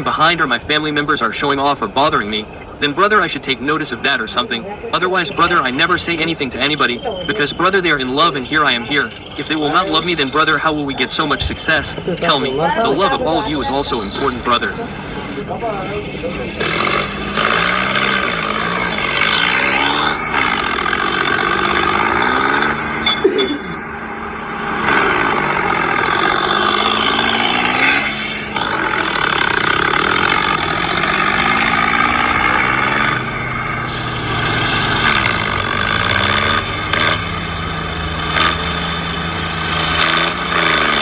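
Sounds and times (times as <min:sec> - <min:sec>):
vehicle engine revving: 0:00.0 - 0:41.0.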